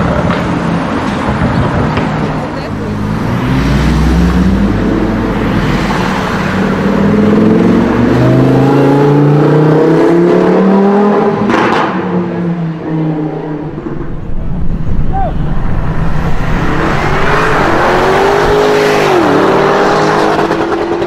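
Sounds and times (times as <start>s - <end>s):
sports car engine revving: 1.7s - 14.2s, 15.9s - 21.0s.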